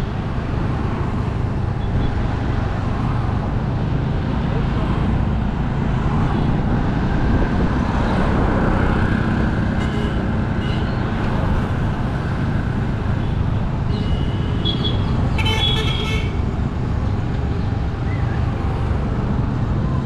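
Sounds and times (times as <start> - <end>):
city road traffic rumble: 0.0 - 20.0.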